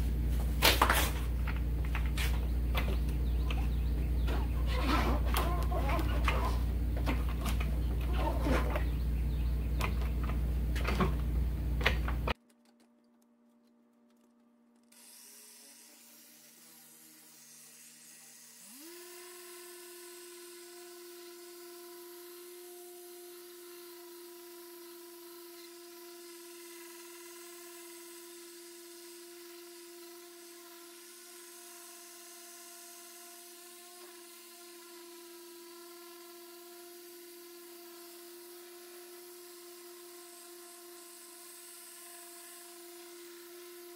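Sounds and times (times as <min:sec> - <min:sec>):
polisher motor whine: 0:00.0 - 0:11.2, 0:14.9 - 0:43.9.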